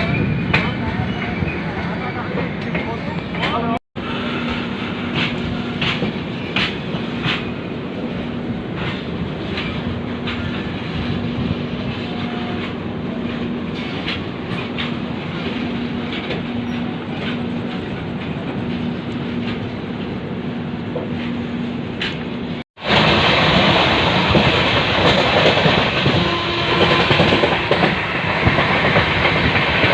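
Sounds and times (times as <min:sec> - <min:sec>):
train rumbling: 0:00.0 - 0:29.9.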